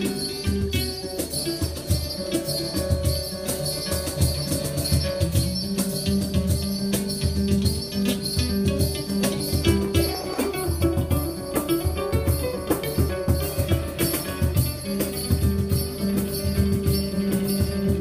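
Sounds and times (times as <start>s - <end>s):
hand percussion: 0.0s - 18.0s
strummed acoustic guitars: 0.0s - 18.0s.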